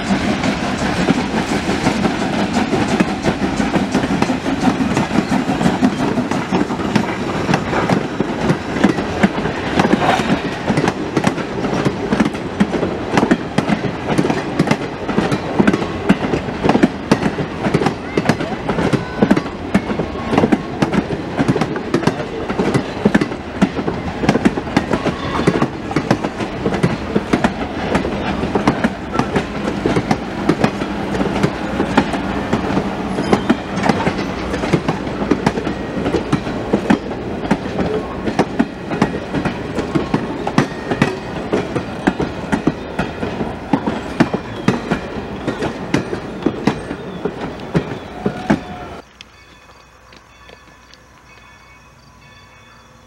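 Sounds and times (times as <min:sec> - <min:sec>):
train wheels clicking over rail joints: 0:00.0 - 0:52.7
train rumble: 0:00.0 - 0:53.0.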